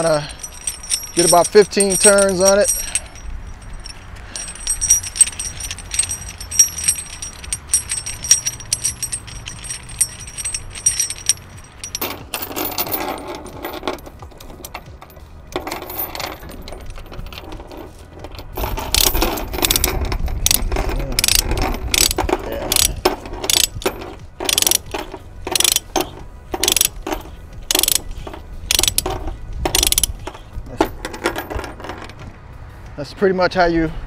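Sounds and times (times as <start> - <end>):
ratchet clicking metallically: 0.0 - 32.2
heavy steel chain rattling: 0.0 - 32.3.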